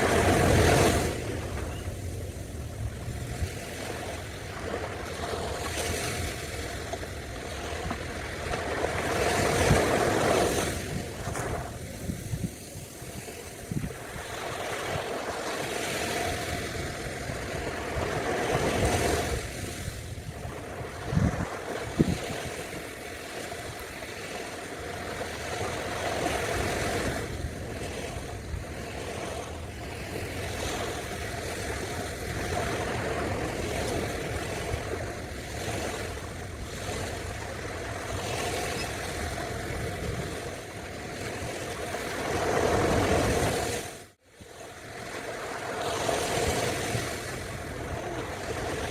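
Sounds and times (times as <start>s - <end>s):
ocean surf breaking on beach: 0.0s - 48.9s.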